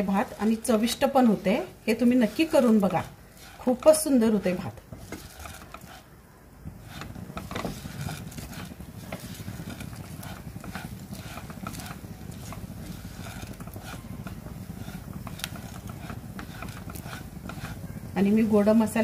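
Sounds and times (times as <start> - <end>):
spatula stirring rice in a pan: 0.0 - 19.0
steady low hum: 0.0 - 19.0.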